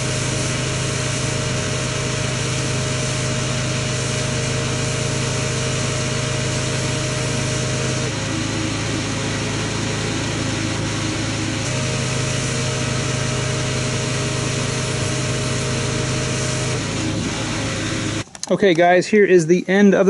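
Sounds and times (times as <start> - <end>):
pressure washer motor running: 0.0 - 18.3.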